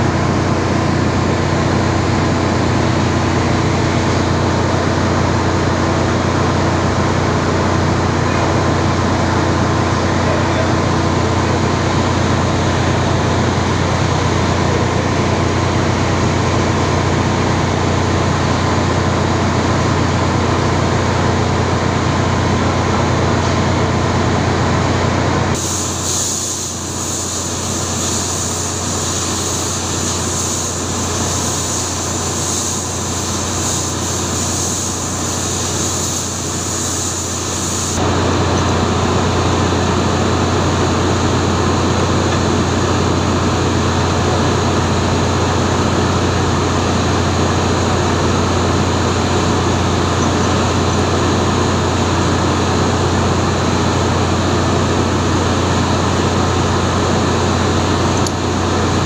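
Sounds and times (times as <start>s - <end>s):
engine-room machinery drone: 0.0s - 59.0s
hissy high machinery noise: 0.0s - 59.0s.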